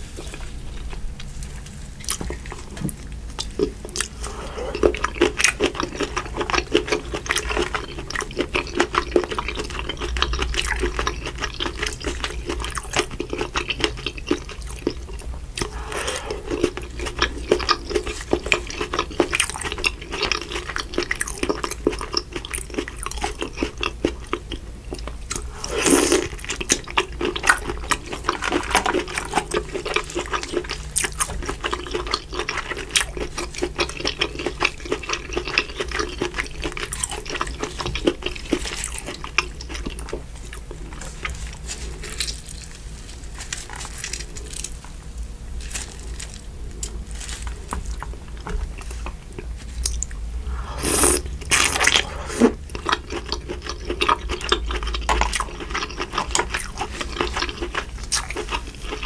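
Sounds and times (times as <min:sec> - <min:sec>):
wet squelching and chewing: 0:00.3 - 0:59.0.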